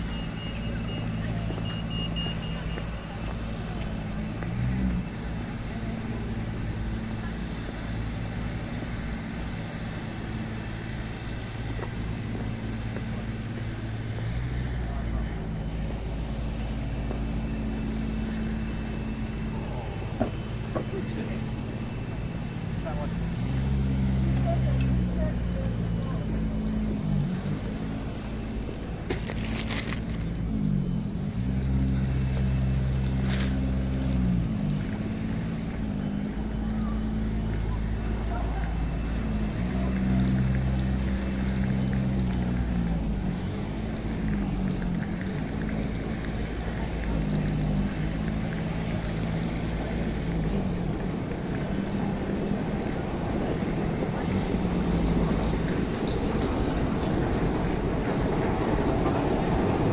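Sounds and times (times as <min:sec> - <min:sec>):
low droning city hum: 0:00.0 - 0:59.9.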